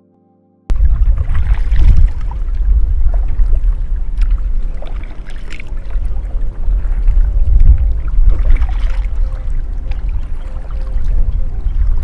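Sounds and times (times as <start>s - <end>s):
loud low rumble: 0.7s - 12.0s
paddle splashing water: 0.7s - 12.0s.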